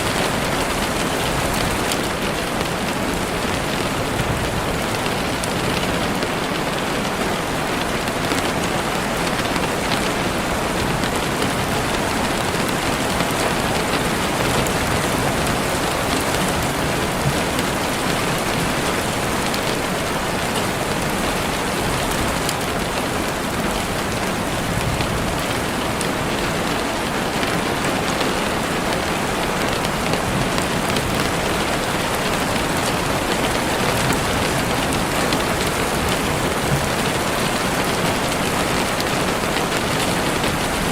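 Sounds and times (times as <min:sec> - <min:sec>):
heavy rain on leaves: 0:00.0 - 0:40.9
raindrops pattering: 0:00.0 - 0:40.9.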